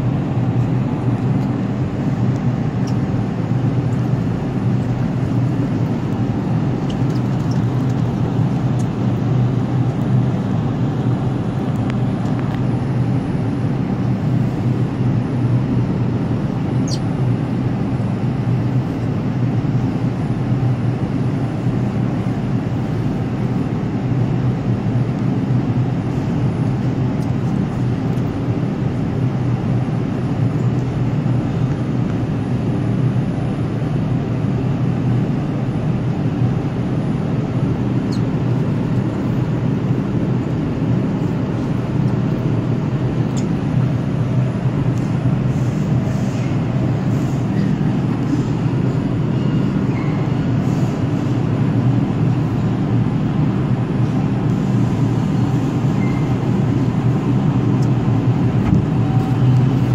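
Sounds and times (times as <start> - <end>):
subway train rumbling on rails: 0.0 - 59.9.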